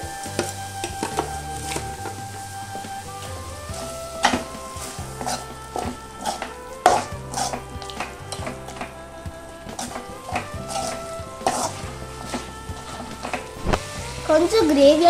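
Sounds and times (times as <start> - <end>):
ladle scraping and knocking pan: 0.0 - 14.5
meat sizzling in a pan: 0.0 - 15.0.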